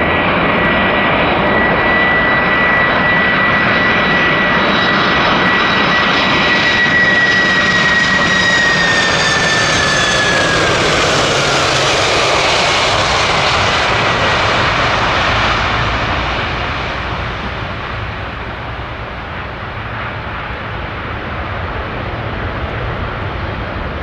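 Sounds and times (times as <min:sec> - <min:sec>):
jet airliner engines: 0:00.0 - 0:24.0.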